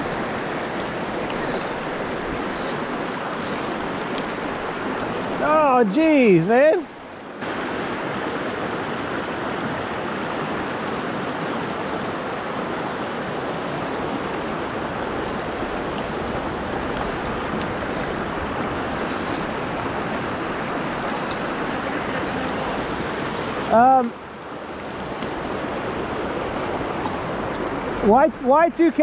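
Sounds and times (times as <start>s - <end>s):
river water rushing over rocks: 0.0s - 29.0s.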